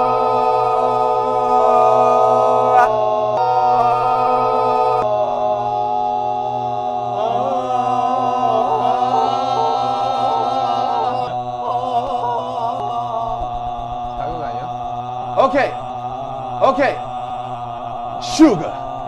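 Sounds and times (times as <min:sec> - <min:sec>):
young men singing a long note: 0:00.0 - 0:19.0.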